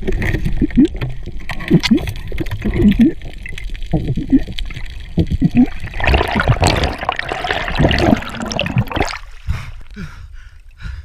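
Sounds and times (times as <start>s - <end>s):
water rushing and bubbling: 0.0s - 9.9s.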